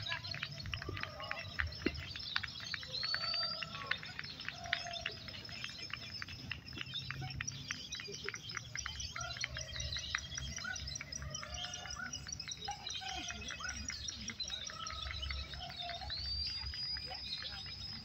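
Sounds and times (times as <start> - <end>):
crowd murmur: 0.0 - 18.0
songbirds chirping and whistling: 0.0 - 18.0.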